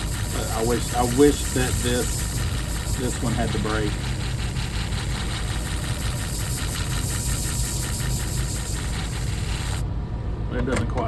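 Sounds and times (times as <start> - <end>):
blade grinding with pulse: 0.0 - 9.8
sharpening machine humming: 0.0 - 9.8.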